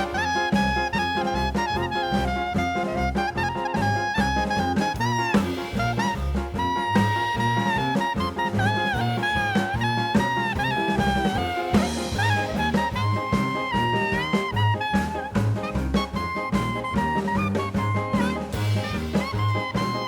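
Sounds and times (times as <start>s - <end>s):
upbeat jazz with horn melody: 0.0s - 20.0s.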